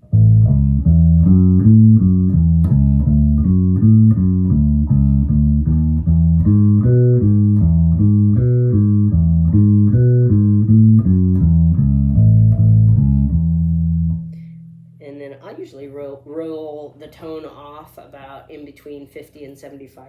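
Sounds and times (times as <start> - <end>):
bass guitar plucked notes: 0.0 - 17.8.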